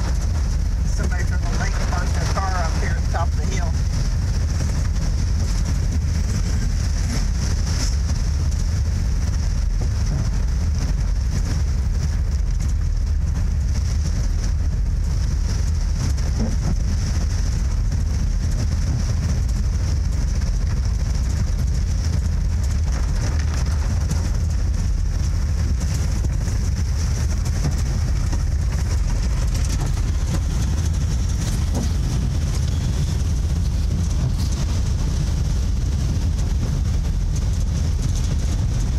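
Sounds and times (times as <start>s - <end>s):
vehicle rumbling on the move: 0.0s - 38.9s.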